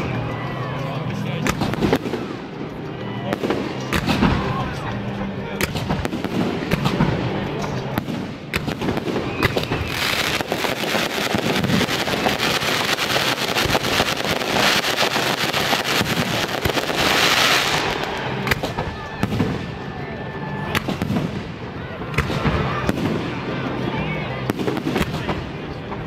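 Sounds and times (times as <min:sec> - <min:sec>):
fireworks bursting with crackling: 0:00.0 - 0:26.0.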